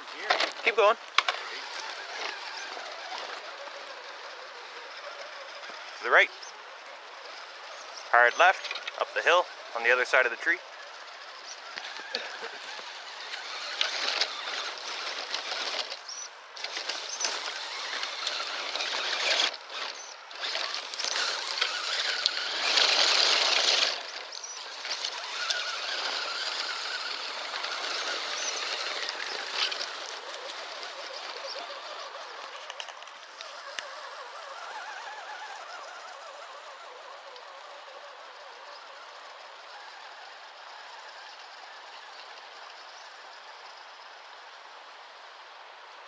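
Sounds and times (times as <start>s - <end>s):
tyres scrabbling over dirt: 0.0s - 43.4s
toy truck drivetrain whir: 0.0s - 46.0s.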